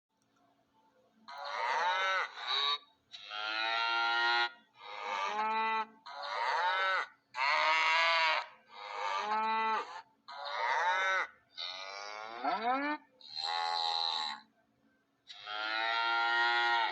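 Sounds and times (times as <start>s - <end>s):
cattle mooing: 1.4s - 2.4s, 3.2s - 14.4s, 15.3s - 16.9s.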